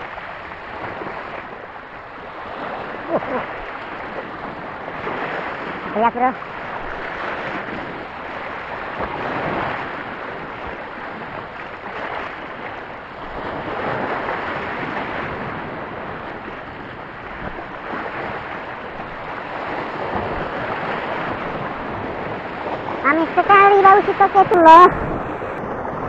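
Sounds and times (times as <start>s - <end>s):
waves breaking over reef: 0.0s - 26.0s.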